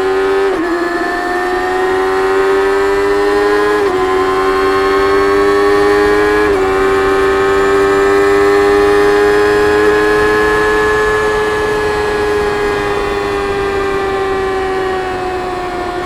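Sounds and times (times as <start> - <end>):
motorcycle engine at speed: 0.0 - 16.0.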